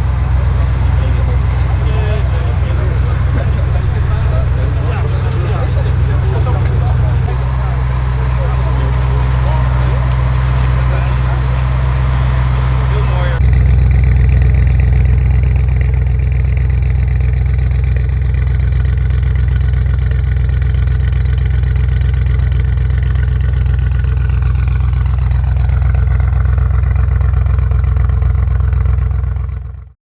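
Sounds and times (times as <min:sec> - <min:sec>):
car engine idling: 0:00.0 - 0:29.8.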